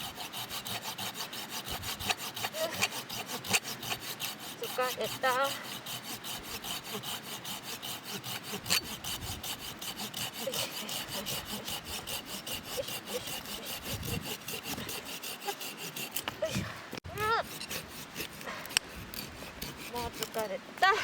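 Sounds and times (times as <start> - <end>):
hand saw cutting firewood: 0.0 - 21.0.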